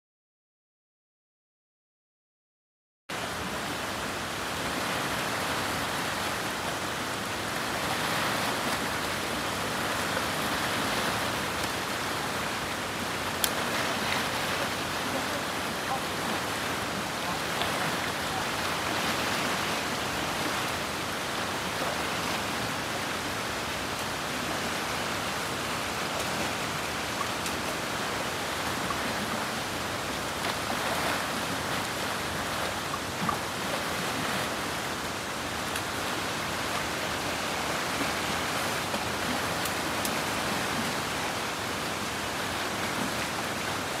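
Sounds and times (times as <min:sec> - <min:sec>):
fast-flowing river rushing: 0:03.1 - 0:44.0
water churning and splashing: 0:03.2 - 0:44.0.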